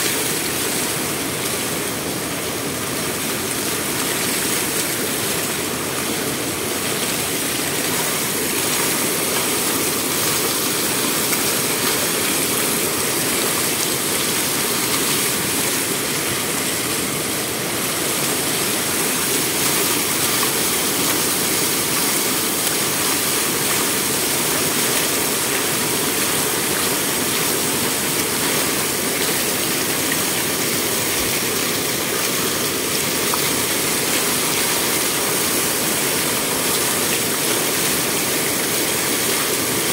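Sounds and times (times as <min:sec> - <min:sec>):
water rushing over stone edge: 0:00.0 - 0:39.9.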